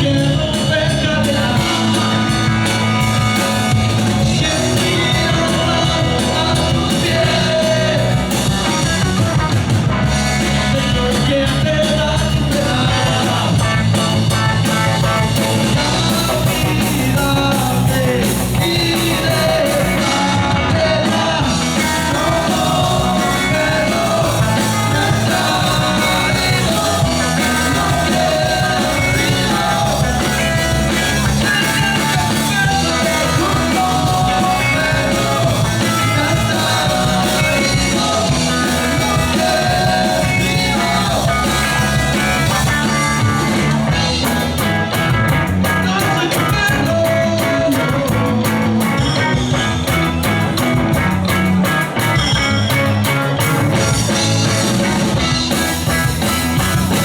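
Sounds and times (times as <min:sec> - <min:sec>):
person singing lead vocal: 0:00.0 - 0:09.4, 0:10.4 - 0:14.4, 0:15.4 - 0:44.6, 0:45.6 - 0:49.5
live rock band playing: 0:00.0 - 0:57.0.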